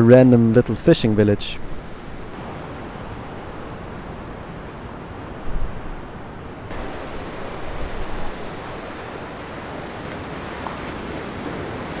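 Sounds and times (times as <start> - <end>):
ocean surf washing: 0.4 - 12.0
wind buffeting microphone: 1.1 - 12.0.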